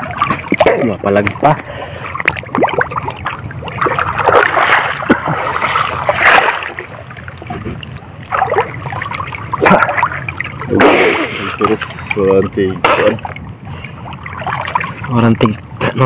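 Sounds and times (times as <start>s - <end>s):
seawater splashing and sloshing: 0.0s - 16.0s.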